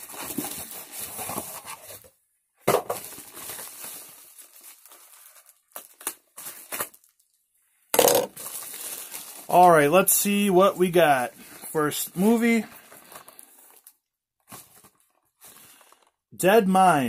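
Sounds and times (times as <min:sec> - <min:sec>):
cardboard rustling and crinkling: 0:00.0 - 0:07.3, 0:08.3 - 0:10.0, 0:11.3 - 0:16.2.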